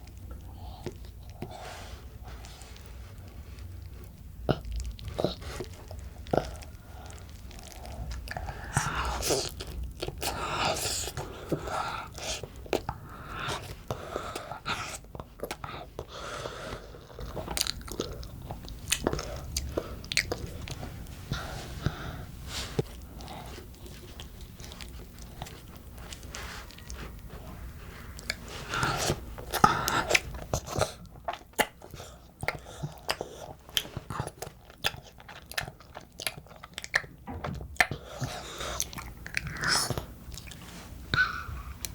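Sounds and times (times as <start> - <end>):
chewing noodles: 0.0 - 41.9.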